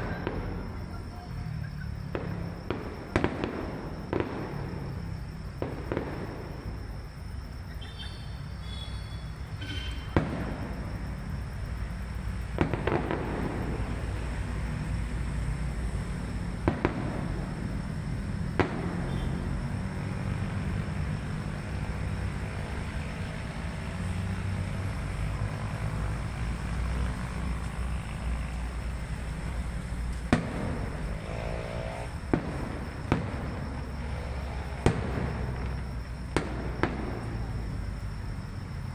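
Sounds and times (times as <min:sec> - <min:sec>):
fireworks bangs: 0:00.0 - 0:06.9, 0:08.7 - 0:11.2, 0:12.4 - 0:38.2.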